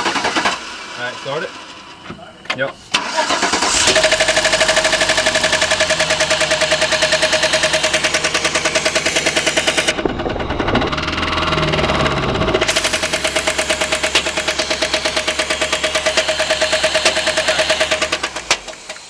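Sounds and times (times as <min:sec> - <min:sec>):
engine hiss: 0:02.8 - 0:19.0
engine knocking: 0:03.6 - 0:19.0.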